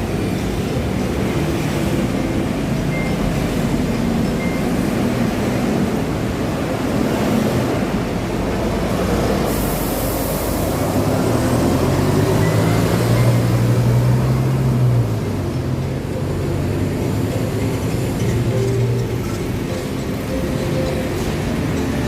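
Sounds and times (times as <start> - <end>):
bus engine hum: 0.0 - 22.0
street traffic: 0.0 - 22.0.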